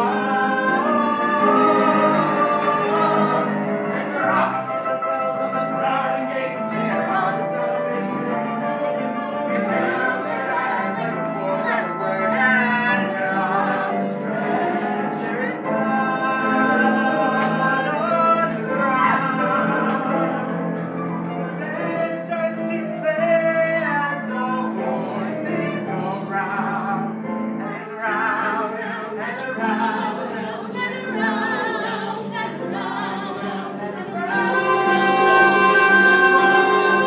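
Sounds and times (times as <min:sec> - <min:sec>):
cast singing with accompaniment: 0:00.0 - 0:37.0.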